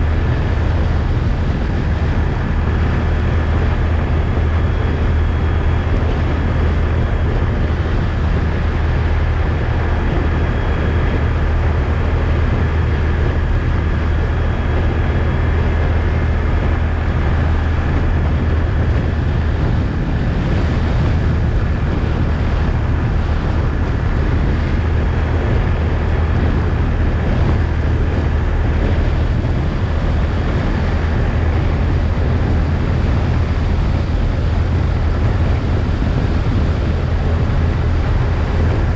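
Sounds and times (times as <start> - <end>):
atv engine running: 0.0 - 38.9
wind on microphone: 0.0 - 38.9.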